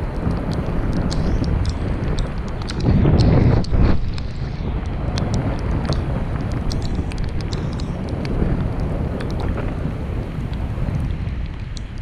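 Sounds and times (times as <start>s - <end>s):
small sharp ticks: 0.0s - 9.8s, 10.4s - 12.0s
wind buffeting microphone: 0.0s - 12.0s.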